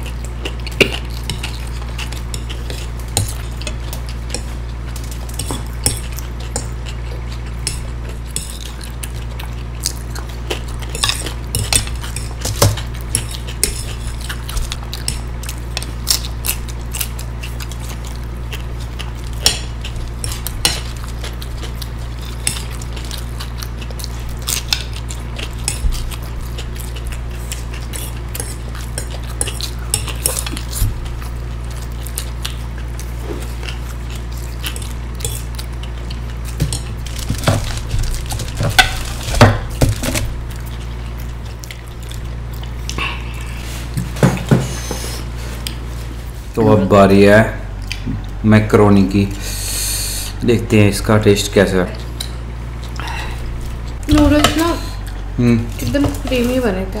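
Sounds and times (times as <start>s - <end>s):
chewing: 0.0s - 46.6s, 47.7s - 48.4s, 51.8s - 56.6s
steady low hum: 0.0s - 57.0s.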